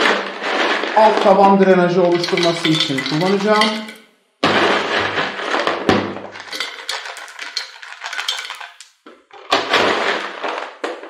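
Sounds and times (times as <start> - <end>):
rocks clattering into a pot: 0.0 - 11.0.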